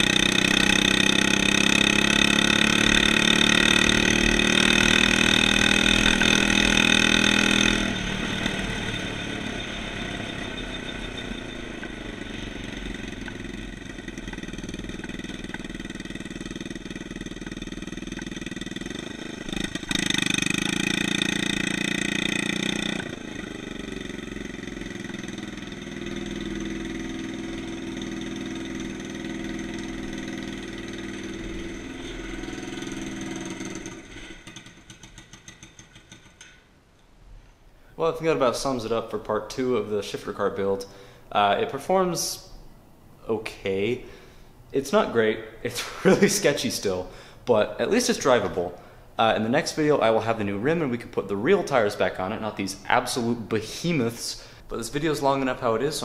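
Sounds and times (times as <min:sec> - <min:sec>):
kart engine revving: 0:00.0 - 0:36.3, 0:44.0 - 0:56.0.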